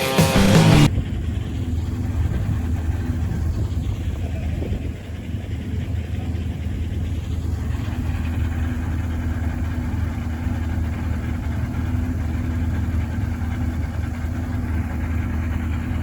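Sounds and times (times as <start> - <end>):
race car engine idling: 0.1 - 16.0.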